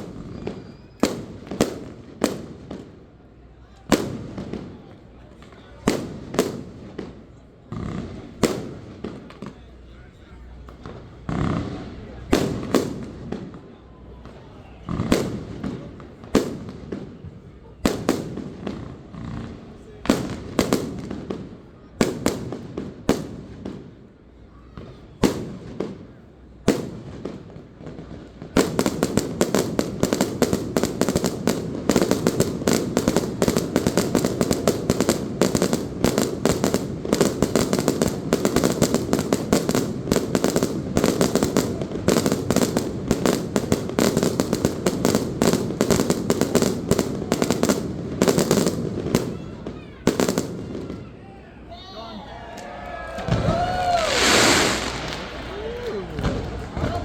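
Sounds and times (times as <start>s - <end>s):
fireworks bangs and crackling: 0.0s - 51.7s, 52.7s - 57.0s.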